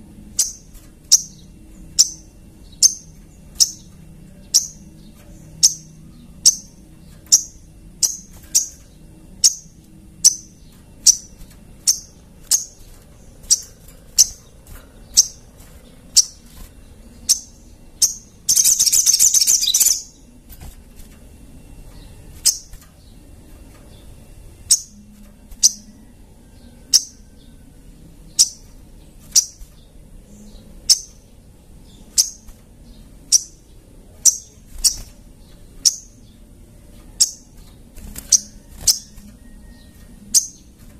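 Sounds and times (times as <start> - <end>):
songbird chirping: 0.0 - 40.9
rapid bird twittering: 0.1 - 40.9.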